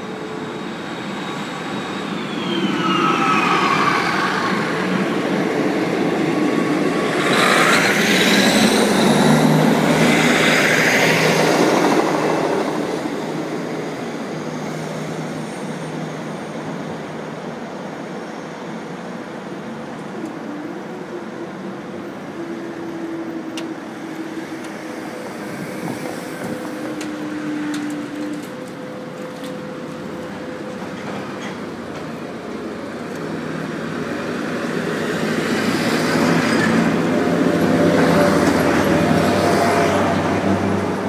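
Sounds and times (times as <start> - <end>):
diesel train engine: 0.0 - 41.0.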